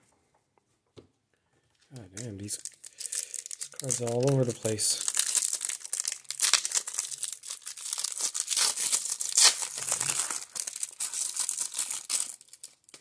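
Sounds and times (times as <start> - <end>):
foil wrapper crinkling and tearing: 2.1 - 13.0.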